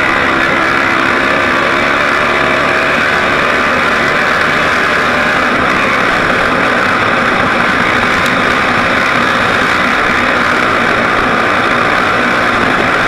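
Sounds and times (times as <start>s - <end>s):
rush of travel: 0.0s - 13.0s
vehicle engine driving fast: 0.0s - 13.0s.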